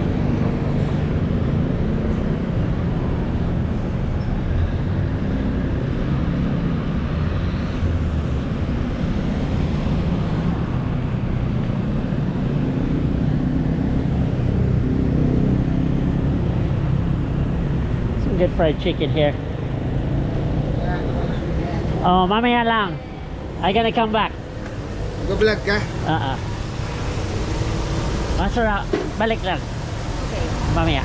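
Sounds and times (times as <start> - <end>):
vehicle engines humming: 0.0 - 31.0.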